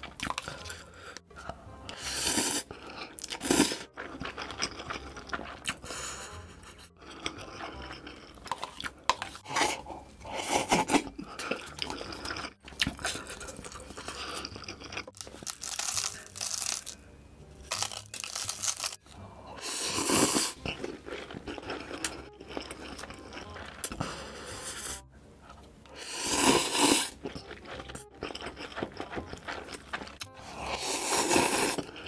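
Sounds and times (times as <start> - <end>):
crunching and chewing chips: 0.0 - 6.1, 7.0 - 17.0, 17.6 - 24.1, 25.4 - 32.0.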